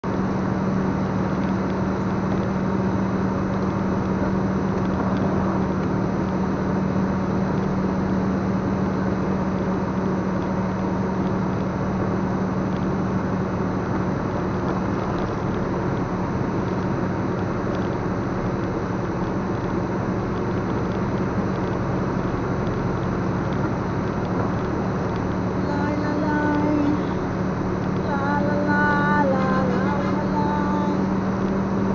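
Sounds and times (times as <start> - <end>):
tyre noise on wet road: 0.0 - 31.9
vehicle engine humming: 0.0 - 31.9.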